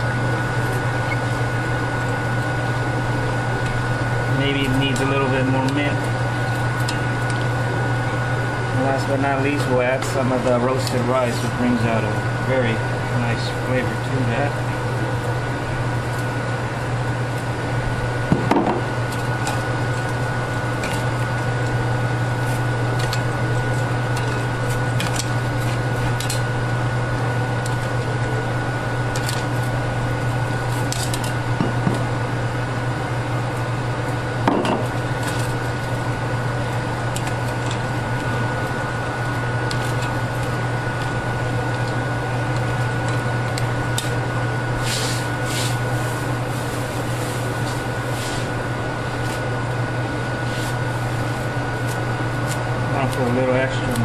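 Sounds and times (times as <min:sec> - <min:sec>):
appliance hum and whine: 0:00.0 - 0:54.0.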